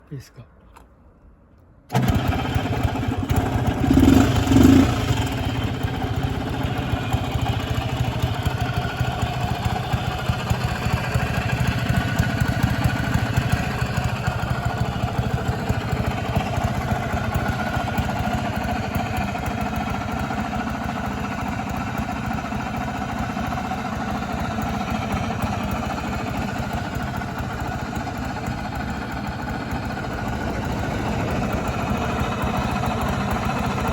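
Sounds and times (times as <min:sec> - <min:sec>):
scooter engine idling: 0:01.9 - 0:33.9.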